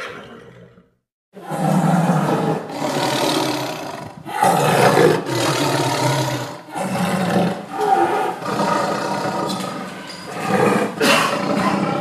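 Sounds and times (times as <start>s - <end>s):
tiger roaring: 0.0s - 12.0s.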